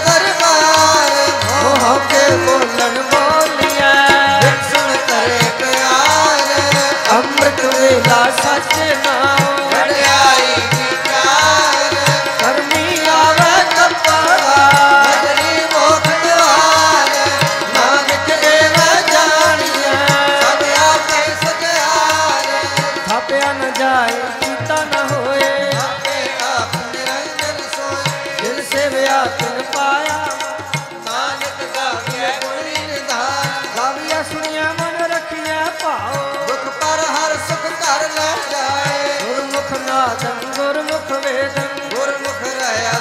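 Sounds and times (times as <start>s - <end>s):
harmonium reed melody: 0.0s - 43.0s
tabla beat: 0.0s - 43.0s.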